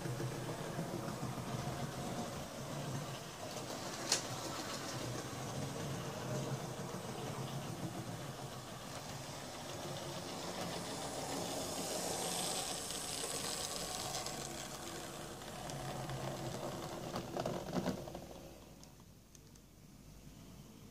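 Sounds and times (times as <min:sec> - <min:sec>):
model train motor hum: 0:00.0 - 0:18.8
wheels rattling on rails: 0:00.0 - 0:18.8.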